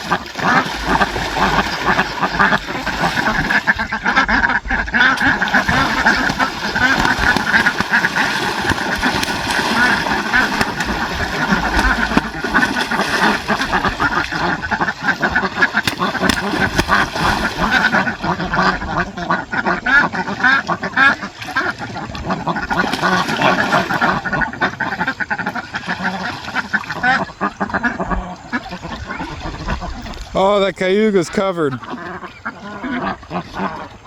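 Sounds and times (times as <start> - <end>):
ducks quacking: 0.0 - 34.0.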